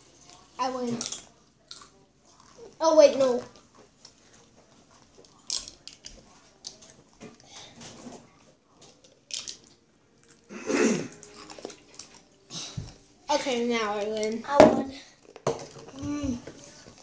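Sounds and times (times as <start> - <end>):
children chewing and swallowing: 0.0 - 17.0.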